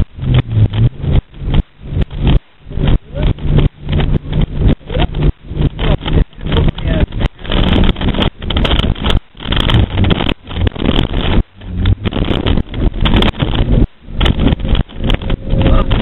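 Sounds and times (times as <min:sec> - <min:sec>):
car cabin rumbling and rattling: 0:00.0 - 0:16.0.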